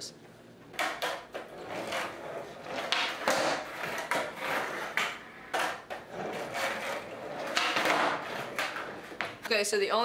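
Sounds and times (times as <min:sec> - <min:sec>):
skateboard deck clacks: 0:00.7 - 0:09.5
skateboard rolling on concrete: 0:00.7 - 0:09.5.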